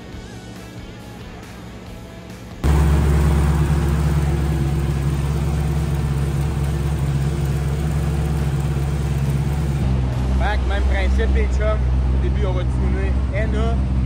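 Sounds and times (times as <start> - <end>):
engine idling: 2.6 - 14.0.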